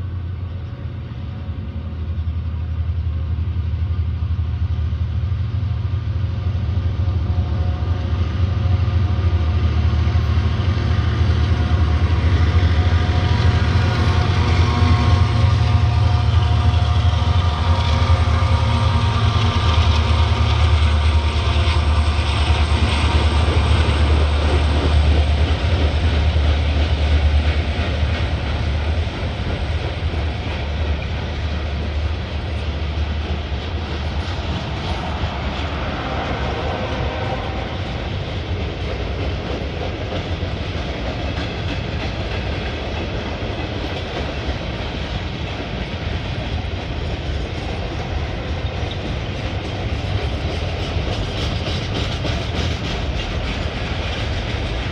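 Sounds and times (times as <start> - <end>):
diesel locomotive engine rumble: 0.0 - 54.9
freight cars rolling on rails: 0.0 - 54.9.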